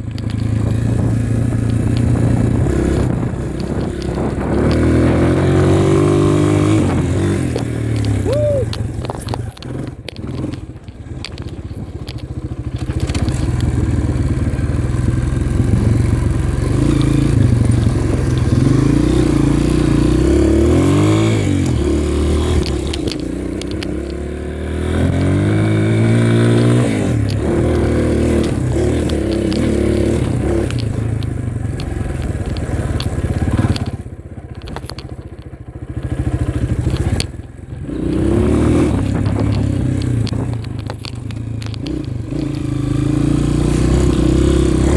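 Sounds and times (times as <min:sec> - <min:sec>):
dirt bike engine revving: 0:00.4 - 0:10.7, 0:12.4 - 0:34.1, 0:35.9 - 0:44.9.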